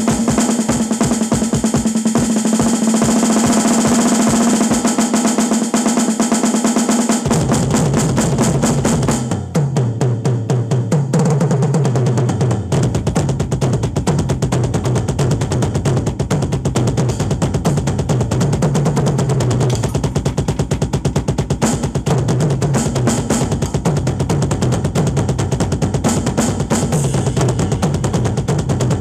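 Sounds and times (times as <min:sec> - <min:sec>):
cymbals: 0:00.0 - 0:10.1, 0:12.4 - 0:29.0
drum kit solo: 0:00.0 - 0:29.0.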